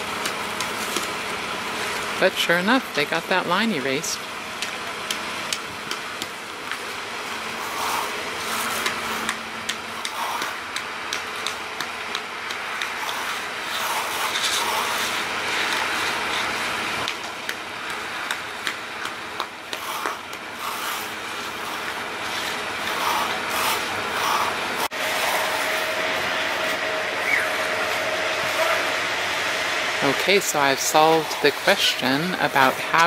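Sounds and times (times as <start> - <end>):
concrete mixer truck running: 0.0 - 33.0.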